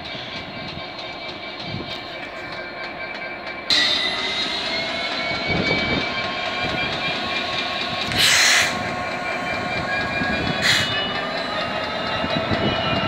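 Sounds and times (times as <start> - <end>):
locomotive diesel engine: 0.0 - 13.0
rail and wheel noise: 0.0 - 13.0
steady ringing tone: 0.0 - 13.0.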